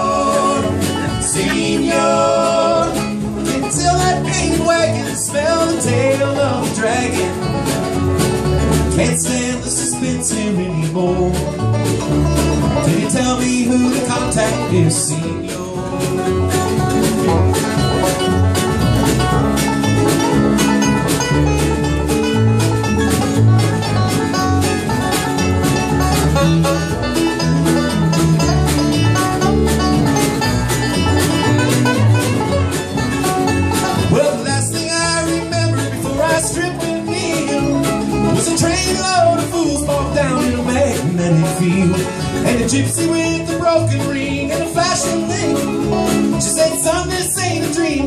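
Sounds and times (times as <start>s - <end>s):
acoustic guitar: 0.0s - 48.0s
banjo picking: 0.0s - 48.0s
mandolin: 0.0s - 48.0s
upright bass: 0.0s - 48.0s.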